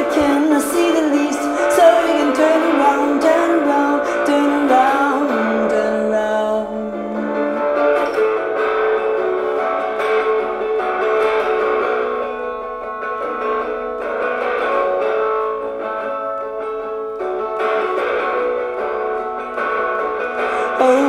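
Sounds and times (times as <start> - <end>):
thin guitar strumming chords: 0.0 - 21.0.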